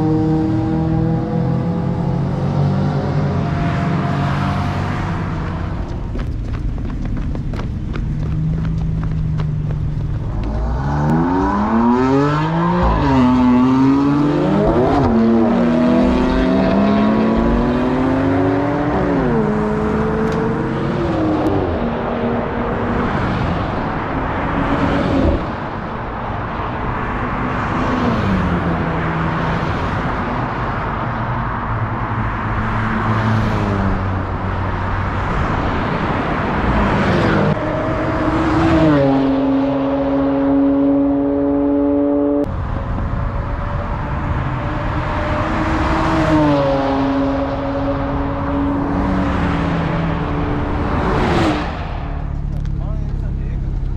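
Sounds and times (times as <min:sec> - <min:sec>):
car engines accelerating: 0:00.0 - 0:53.9.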